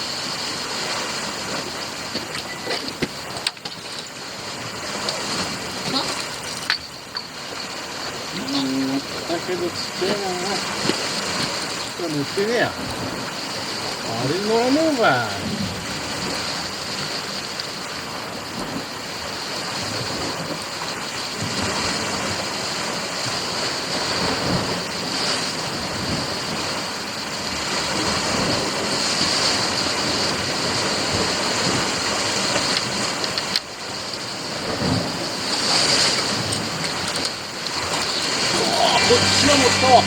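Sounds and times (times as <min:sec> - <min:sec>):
surf washing against rocks: 0:00.0 - 0:40.0.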